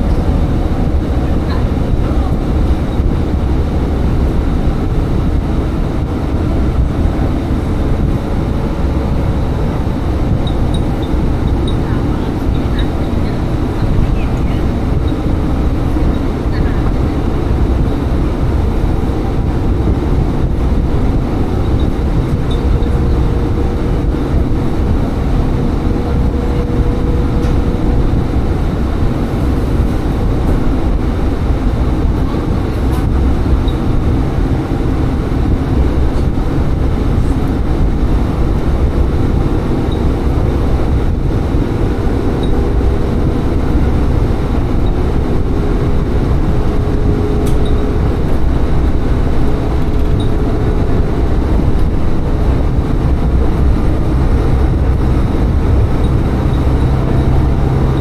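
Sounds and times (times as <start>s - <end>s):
diesel engine drone: 0.0s - 58.0s
wheel-on-rail rumble: 0.0s - 58.0s.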